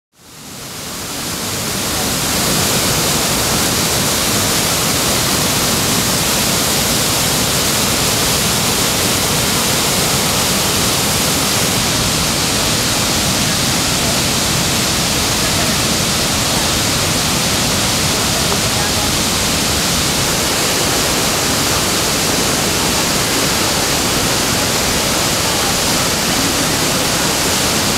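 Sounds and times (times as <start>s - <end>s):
waterfall rushing over rocks: 0.2s - 27.9s.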